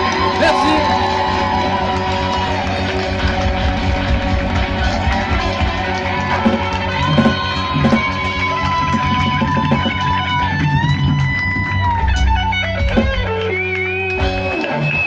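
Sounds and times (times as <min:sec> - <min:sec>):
live rock band playing: 0:00.0 - 0:15.0
sustained bending guitar notes: 0:00.0 - 0:15.0.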